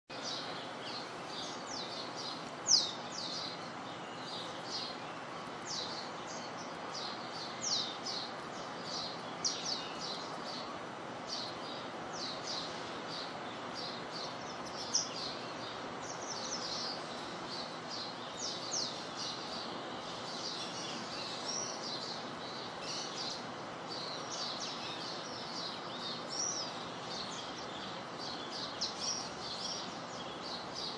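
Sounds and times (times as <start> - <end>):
small birds chirping: 0.1 - 30.9
rain falling on plants: 0.2 - 29.7.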